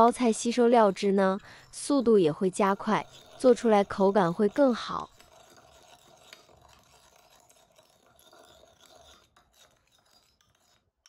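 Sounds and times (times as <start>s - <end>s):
spoon scraping ceramic bowl: 0.0s - 11.0s.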